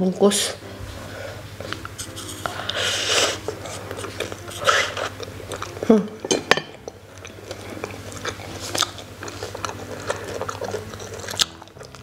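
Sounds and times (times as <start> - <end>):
biting and chewing food: 1.6 - 12.0.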